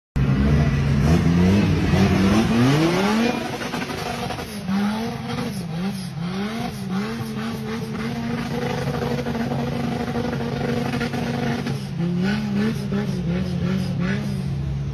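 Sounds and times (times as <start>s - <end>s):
engine revving hard: 0.2s - 14.4s.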